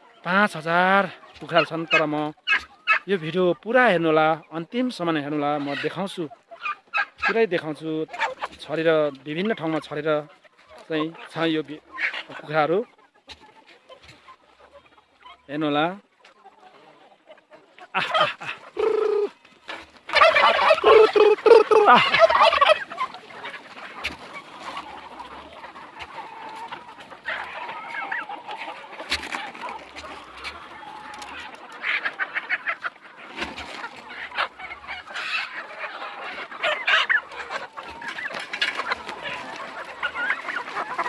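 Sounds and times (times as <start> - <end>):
chickens clucking and calling: 0.0 - 41.0.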